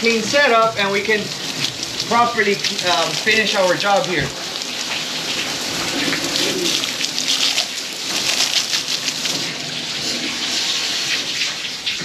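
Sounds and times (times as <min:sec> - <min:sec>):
hose water spraying on metal: 0:00.0 - 0:12.0.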